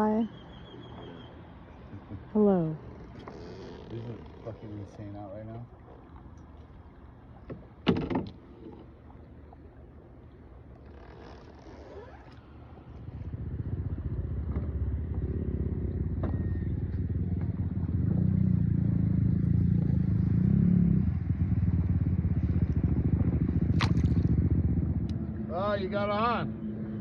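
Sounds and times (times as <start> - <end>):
boat motor droning: 0.0 - 27.0.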